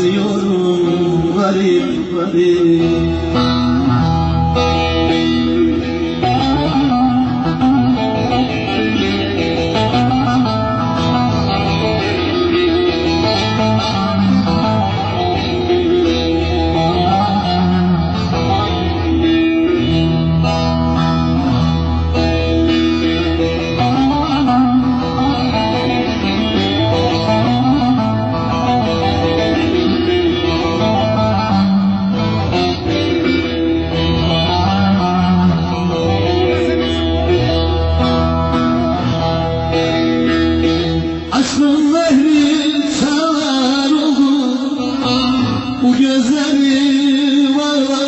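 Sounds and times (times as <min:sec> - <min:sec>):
instrumental folk-pop music: 0:00.0 - 0:48.0.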